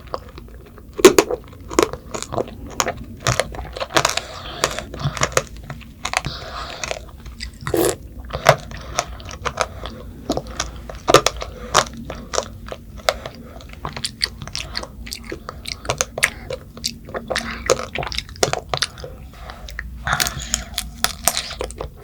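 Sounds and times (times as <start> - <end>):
candy shell crunching: 0.0 - 22.0.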